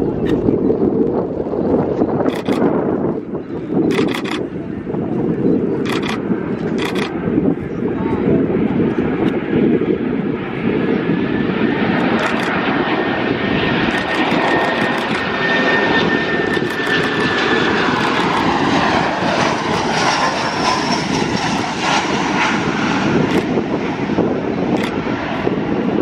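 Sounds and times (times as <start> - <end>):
aircraft engine: 0.0 - 26.0.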